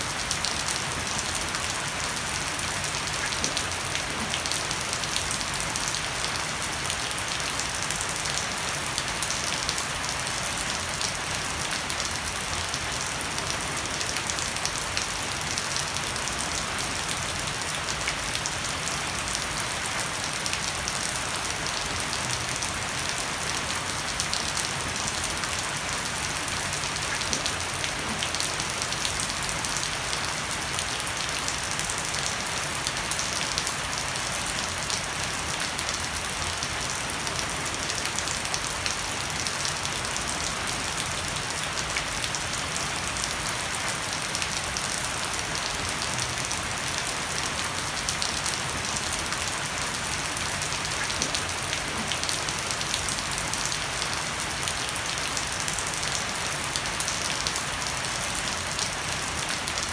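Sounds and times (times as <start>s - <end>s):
heavy rain on a wooden deck: 0.0s - 59.9s.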